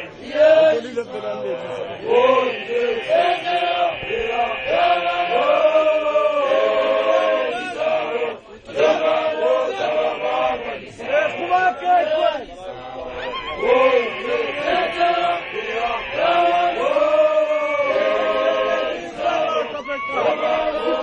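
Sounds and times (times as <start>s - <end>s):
group chanting a song unaccompanied: 0.0s - 21.0s.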